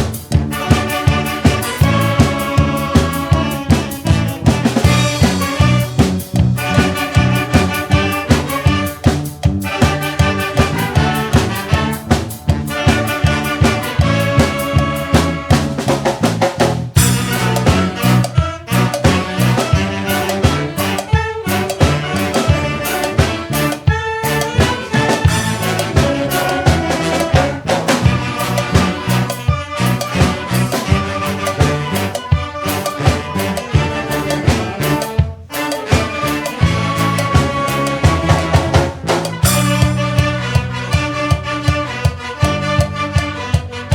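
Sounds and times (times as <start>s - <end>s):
upbeat brass music: 0.0s - 43.9s.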